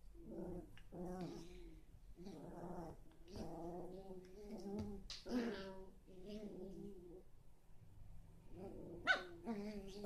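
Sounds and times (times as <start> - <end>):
small dogs growling: 0.2 - 7.2, 8.4 - 10.0.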